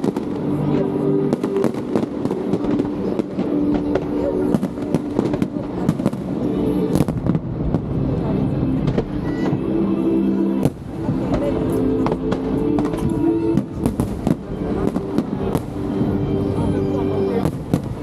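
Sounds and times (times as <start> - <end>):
fireworks bangs and crackles: 0.0 - 9.9, 10.5 - 18.0
music playing: 0.0 - 18.0.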